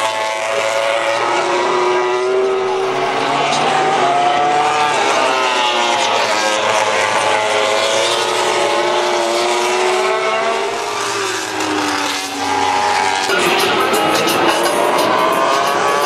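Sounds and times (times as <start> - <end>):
racing motorcycle engine revving: 0.0 - 16.0.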